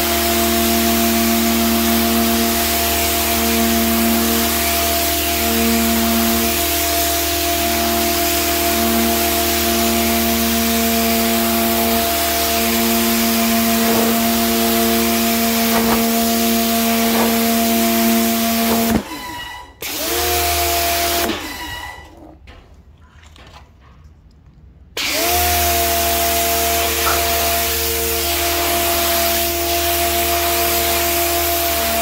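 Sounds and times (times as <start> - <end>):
water jet hissing on concrete: 0.0 - 19.1, 25.2 - 32.0
pressure washer motor humming: 0.0 - 22.0, 25.0 - 32.0.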